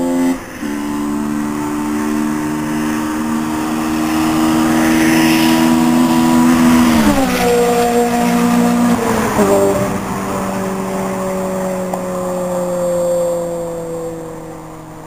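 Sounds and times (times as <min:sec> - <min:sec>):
sports car engine passing by: 0:00.0 - 0:15.0.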